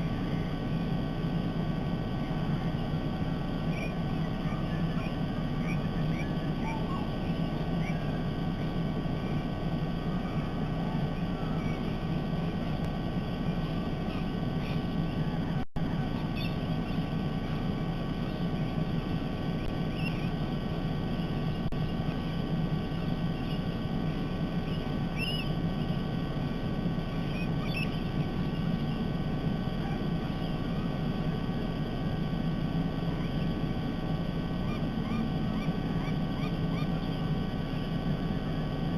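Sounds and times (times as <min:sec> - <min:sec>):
faint bird chirps: 0:00.0 - 0:38.9
low outdoor rumble: 0:00.0 - 0:38.9.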